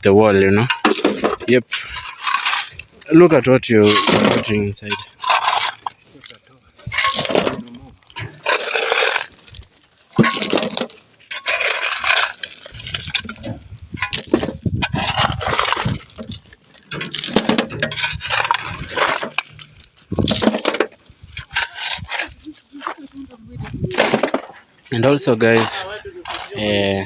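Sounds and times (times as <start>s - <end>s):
stones rattling into wheelbarrow: 0.0s - 27.0s
shovels scraping crushed stone: 0.4s - 3.2s, 3.8s - 27.0s.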